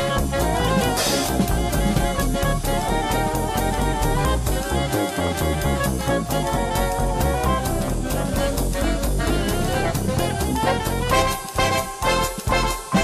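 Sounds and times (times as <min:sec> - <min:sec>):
drum kit beat: 0:00.0 - 0:13.0
upbeat jazz band with horns: 0:00.0 - 0:13.0.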